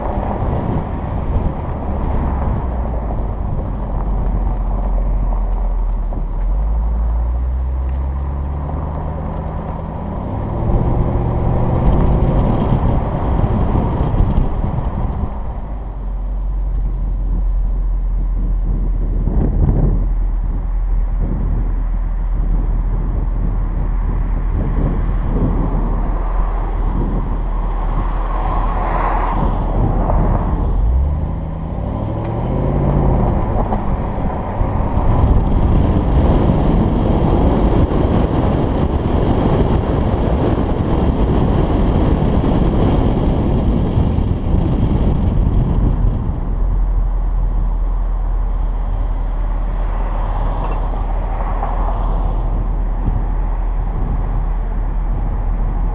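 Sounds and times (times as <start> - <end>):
car exhaust while driving: 0.0 - 55.9.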